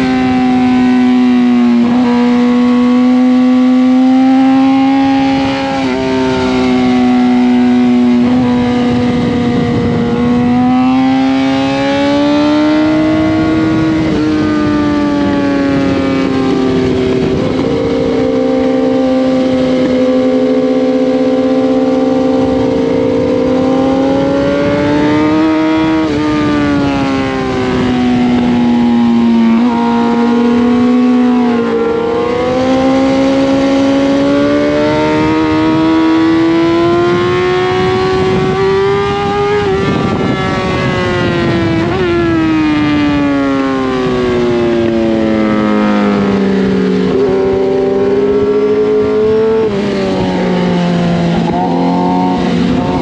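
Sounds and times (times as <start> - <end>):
motorcycle engine running hard: 0.0 - 53.0
rushing wind: 0.0 - 53.0.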